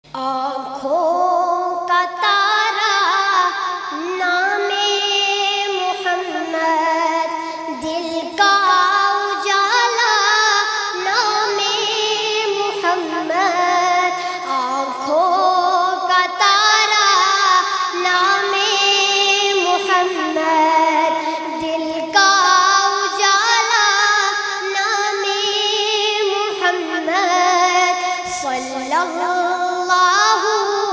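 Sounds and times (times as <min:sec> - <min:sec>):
devotional song high voice: 0:00.0 - 0:30.9.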